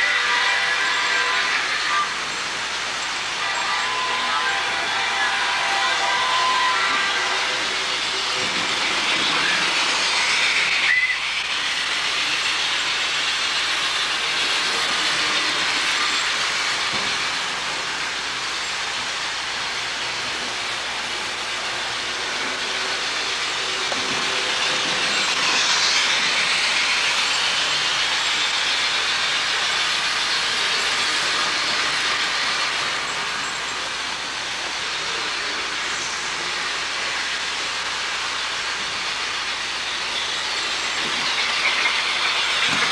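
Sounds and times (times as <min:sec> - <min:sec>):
model trains whirring on track: 0:00.0 - 0:42.9.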